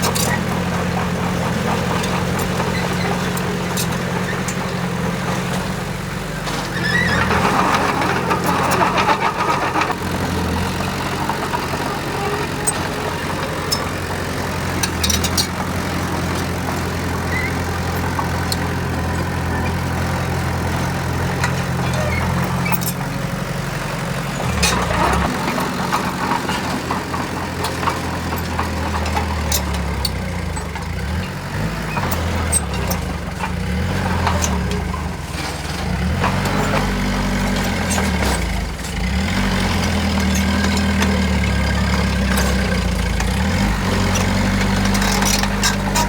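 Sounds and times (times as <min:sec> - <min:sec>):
heavy diesel engine running: 0:00.0 - 0:46.0
metallic clanks and knocks: 0:06.5 - 0:46.0.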